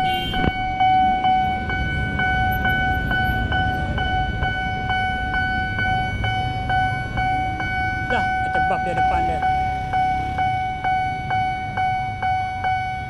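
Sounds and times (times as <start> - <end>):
street traffic rumble: 0.0 - 13.0
level crossing bell ringing: 0.6 - 13.0.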